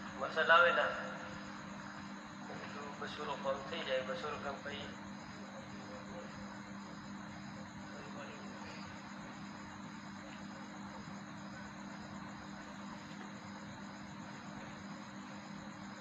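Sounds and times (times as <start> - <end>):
insects trilling: 0.0 - 16.0
steady low hum: 0.0 - 16.0.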